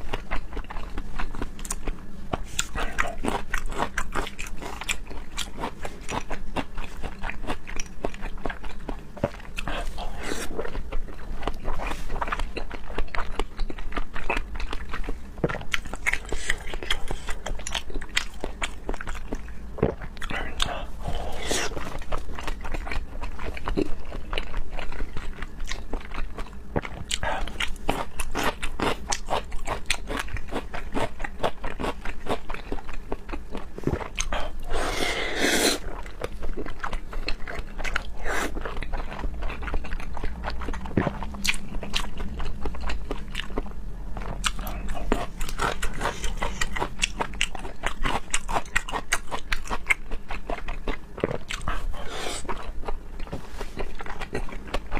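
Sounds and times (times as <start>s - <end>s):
chewing raw seafood: 0.0s - 54.9s.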